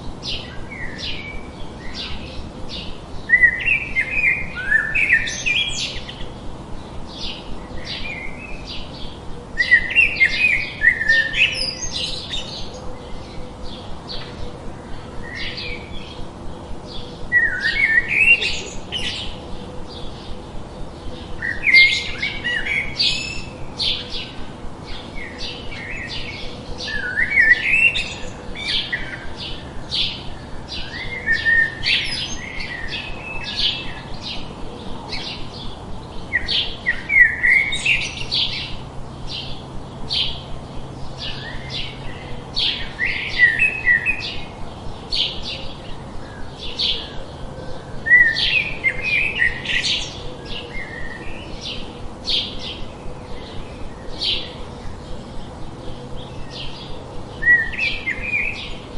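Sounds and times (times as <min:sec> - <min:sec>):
songbirds chirping: 0:00.0 - 0:58.9
warbling bird song: 0:00.0 - 0:58.9.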